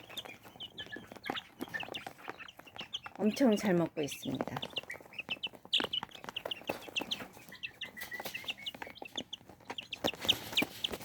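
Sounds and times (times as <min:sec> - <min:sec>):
chicks pecking feed: 0:00.0 - 0:11.0
chicks peeping: 0:00.0 - 0:11.0.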